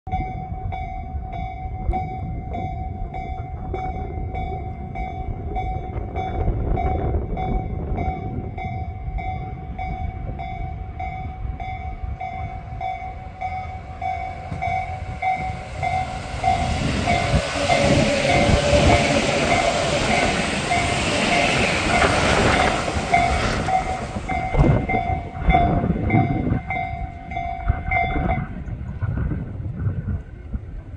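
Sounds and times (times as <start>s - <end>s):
crossing warning bell dinging: 0.1s - 29.0s
train rumbling: 0.1s - 30.9s.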